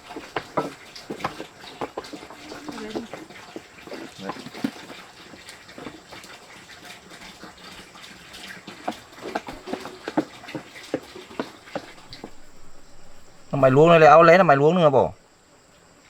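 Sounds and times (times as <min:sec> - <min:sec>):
light knocks and clatter: 0:00.0 - 0:13.9
water splashing: 0:00.0 - 0:15.2.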